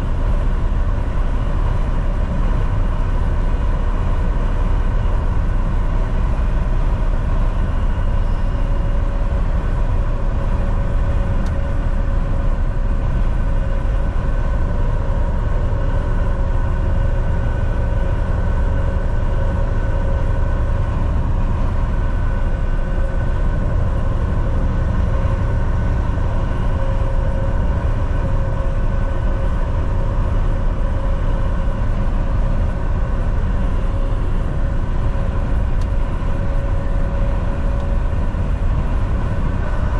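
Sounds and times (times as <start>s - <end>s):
steady whine: 0.0s - 39.9s
truck engine and tyres rumbling: 0.0s - 39.9s.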